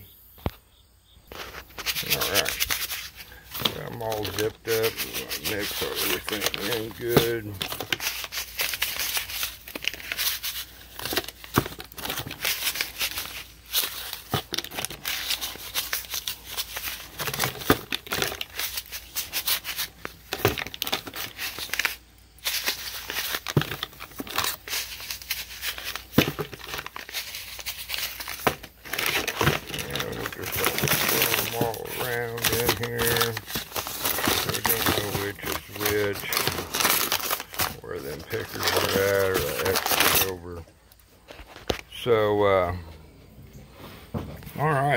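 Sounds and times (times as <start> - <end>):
dirt crackling inside bag: 1.3 - 40.6
plastic bag crinkling: 1.3 - 42.1.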